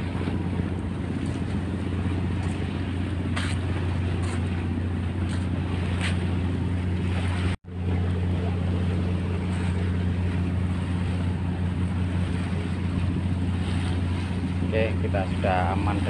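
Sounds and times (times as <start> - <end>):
boat engine droning: 0.0 - 16.0
water and wind hiss: 0.0 - 16.0.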